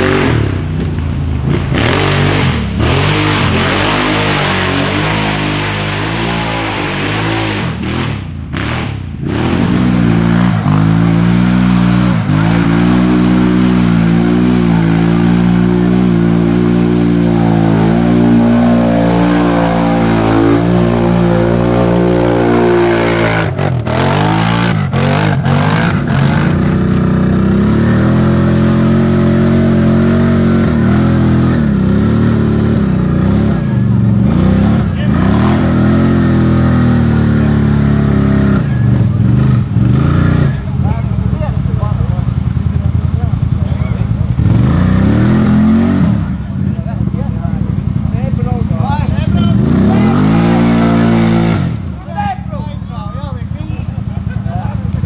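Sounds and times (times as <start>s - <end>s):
quad engine revving in mud: 0.0s - 52.1s.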